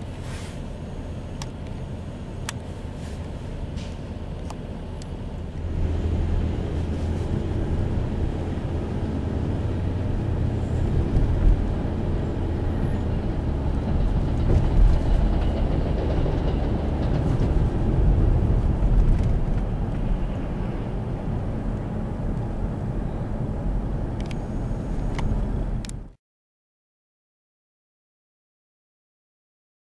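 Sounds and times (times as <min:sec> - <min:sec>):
street traffic rumble: 0:00.0 - 0:26.2.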